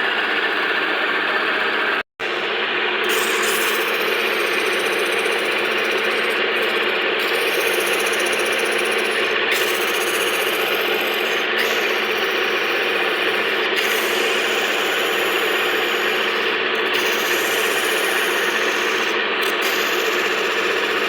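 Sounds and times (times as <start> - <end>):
machine rattling steadily: 0.0 - 21.0.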